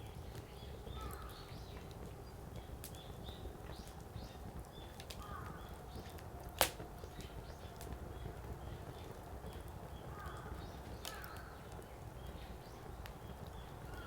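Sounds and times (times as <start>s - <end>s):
fire rumbling: 0.0s - 14.0s
firewood crackling: 0.0s - 14.0s.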